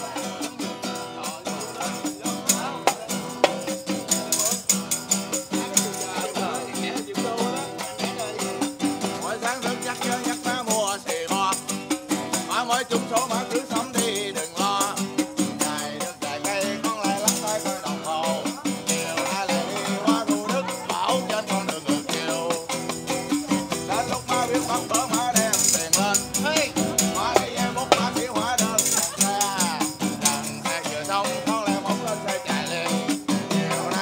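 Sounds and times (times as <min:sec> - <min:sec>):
acoustic guitar strumming: 0:00.0 - 0:34.0
man singing: 0:00.0 - 0:34.0
tambourine jingling: 0:00.0 - 0:34.0.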